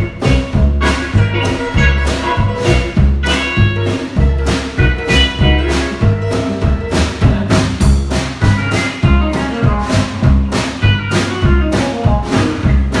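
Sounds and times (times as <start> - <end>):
background music with drums: 0.0 - 13.0.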